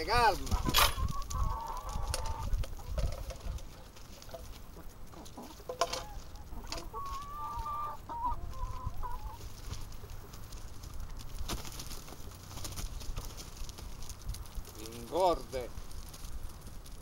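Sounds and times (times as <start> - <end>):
hens clucking: 0.0 - 16.7.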